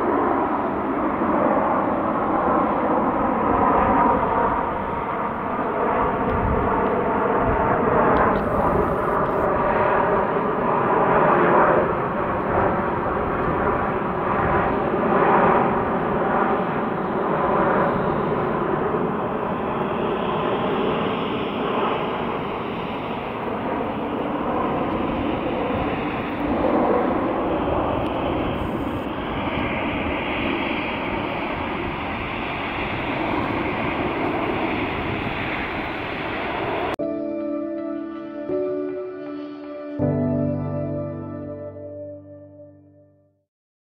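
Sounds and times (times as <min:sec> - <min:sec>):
jet airliner flying past: 0:00.0 - 0:42.7.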